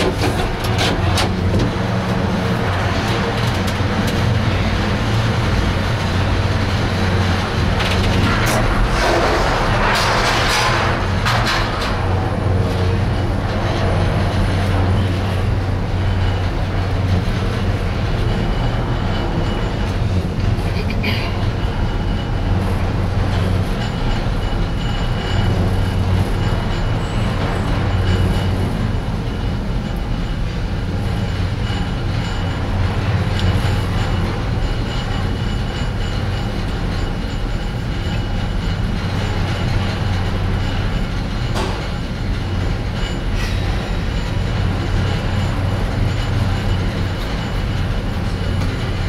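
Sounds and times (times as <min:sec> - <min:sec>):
gondola cabin rumble and hum: 0:00.0 - 0:49.0.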